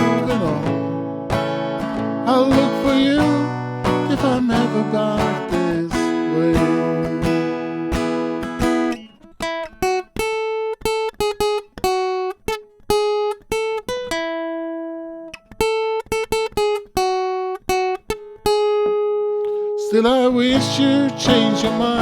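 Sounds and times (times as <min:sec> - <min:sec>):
acoustic guitar picked melody: 0:00.0 - 0:22.0
acoustic guitar strummed chords: 0:00.0 - 0:22.0.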